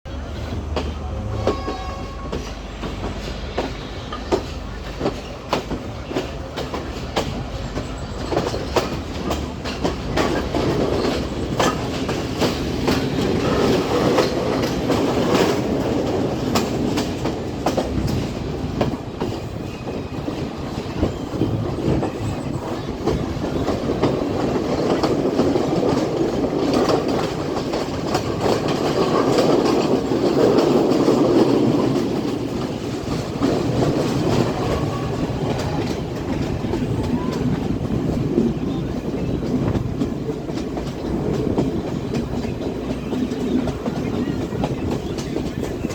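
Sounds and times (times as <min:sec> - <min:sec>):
train running rumble: 0:00.0 - 0:45.9
train wheels clicking over rail joints: 0:00.1 - 0:45.9.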